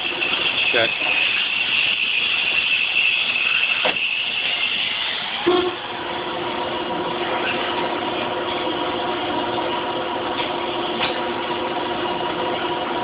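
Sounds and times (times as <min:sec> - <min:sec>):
lathe running with hum and whine: 0:00.0 - 0:13.0.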